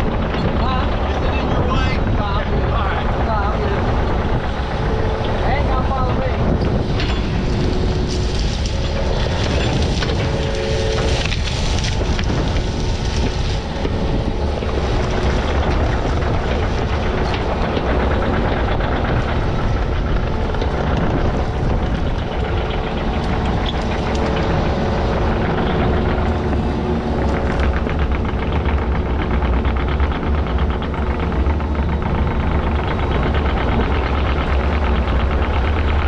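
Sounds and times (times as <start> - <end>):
faint clanks and rattles: 0.0 - 36.0
heavy equipment engine running: 0.0 - 36.0.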